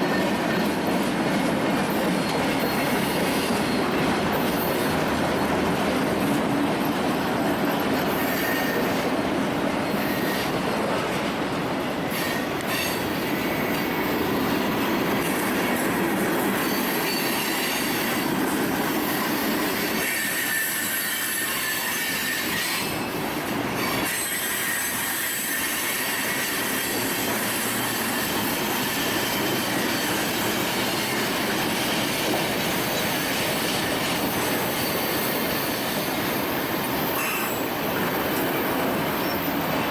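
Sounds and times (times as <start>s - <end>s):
freight train cars rumbling: 0.0s - 39.9s
train wheel squeal: 0.0s - 39.9s.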